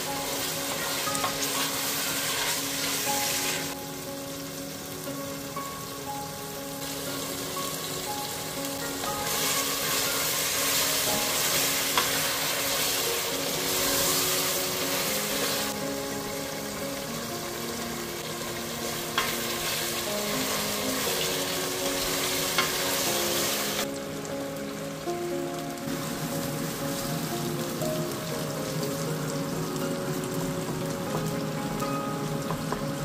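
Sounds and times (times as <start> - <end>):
meat sizzling in oil: 0.0 - 33.0.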